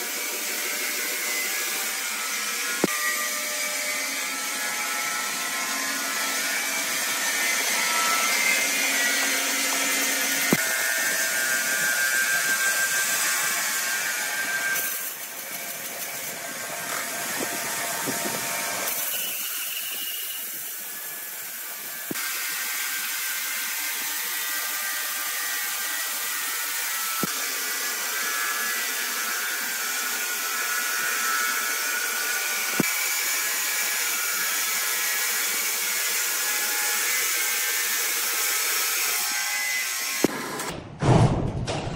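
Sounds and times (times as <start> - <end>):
band saw cutting log: 0.0 - 40.8.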